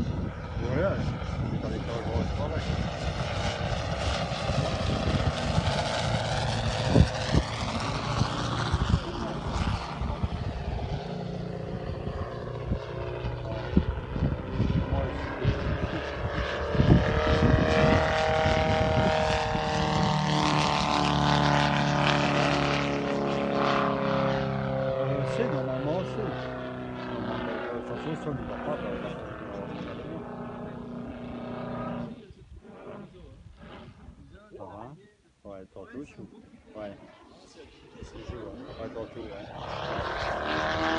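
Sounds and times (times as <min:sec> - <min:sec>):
model plane engine droning: 0:00.0 - 0:34.4, 0:36.0 - 0:40.9.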